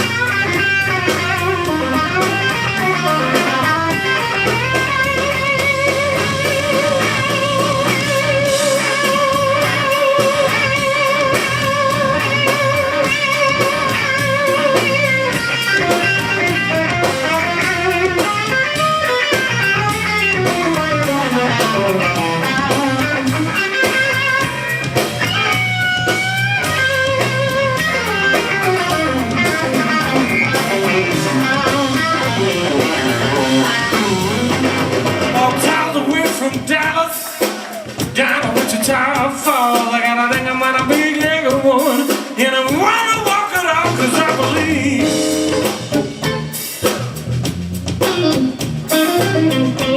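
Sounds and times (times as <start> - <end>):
bass and drums: 0.0 - 49.9
electric blues lead guitar: 0.0 - 49.9.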